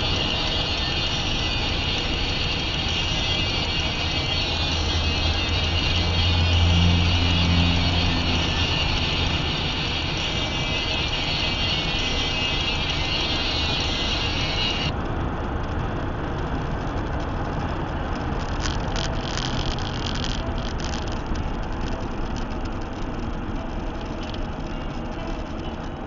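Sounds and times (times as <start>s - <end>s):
car cruising road noise: 0.0s - 26.0s.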